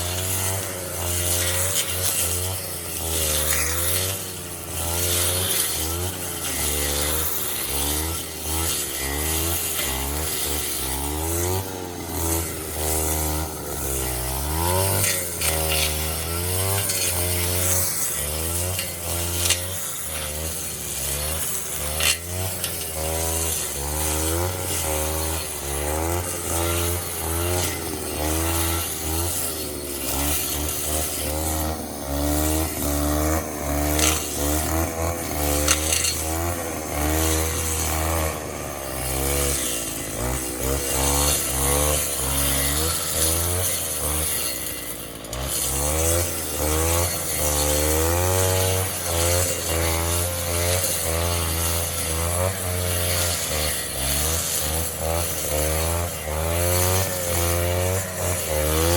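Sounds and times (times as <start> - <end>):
grass cutter engine running: 0.0 - 58.9.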